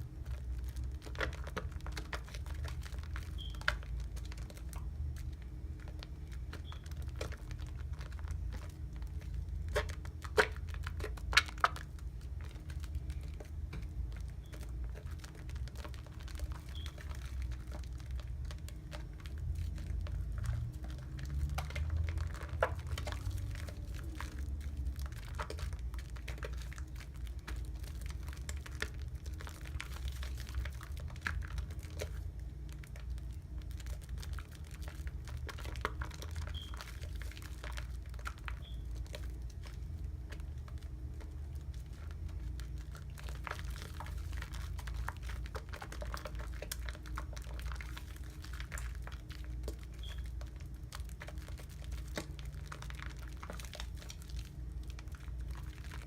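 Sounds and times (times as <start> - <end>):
soap lather crackling: 0.0 - 56.0.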